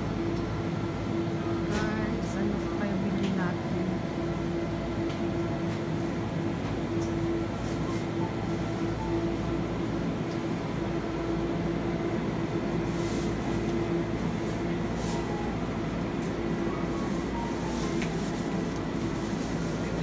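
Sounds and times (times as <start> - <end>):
refrigeration hum and rumble: 0.0 - 20.0.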